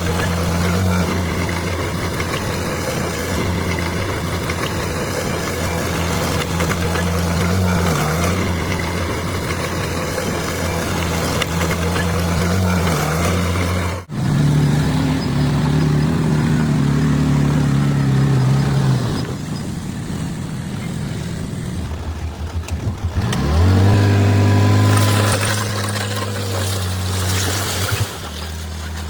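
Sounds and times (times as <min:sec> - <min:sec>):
bulldozer diesel engine under load: 0:00.0 - 0:29.0.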